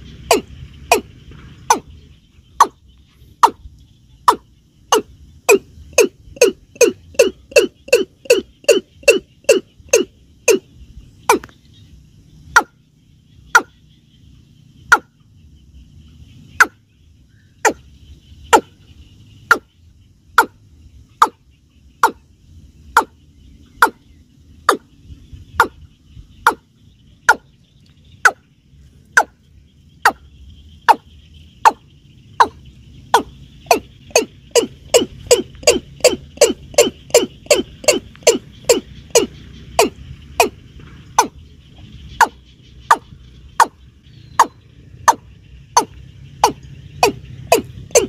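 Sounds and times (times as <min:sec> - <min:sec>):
bird calling sharp notes: 0:00.0 - 0:14.0, 0:16.4 - 0:22.2, 0:25.5 - 0:29.4, 0:30.0 - 0:48.0.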